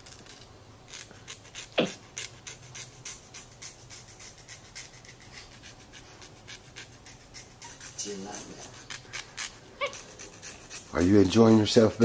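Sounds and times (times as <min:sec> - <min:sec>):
nail file rasping: 0:00.0 - 0:12.0.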